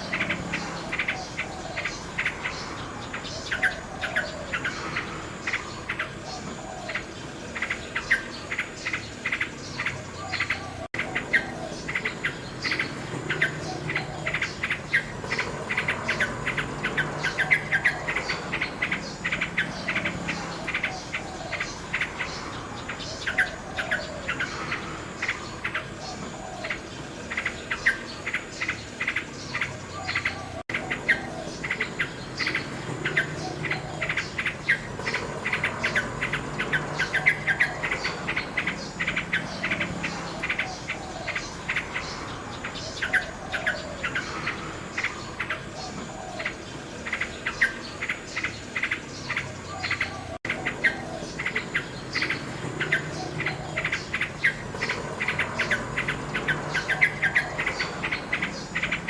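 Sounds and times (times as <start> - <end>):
insects chirring: 0.0 - 59.0
nightingale singing: 0.0 - 59.0.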